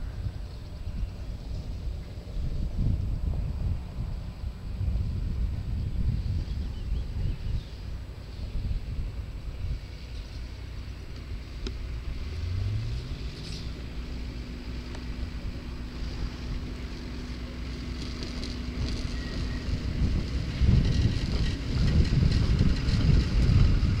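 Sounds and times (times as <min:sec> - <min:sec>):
truck engine revving and droning: 0:00.0 - 0:24.0.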